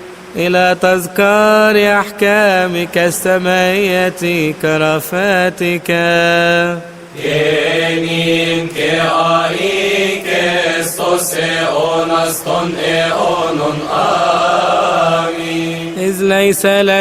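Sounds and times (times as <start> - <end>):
man chanting a prayer: 0.4 - 17.0.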